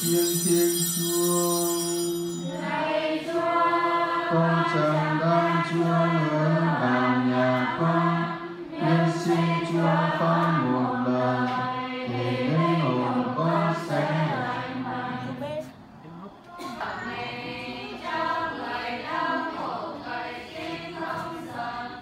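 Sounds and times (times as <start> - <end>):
church choir singing a hymn: 2.4 - 15.7, 16.6 - 22.0.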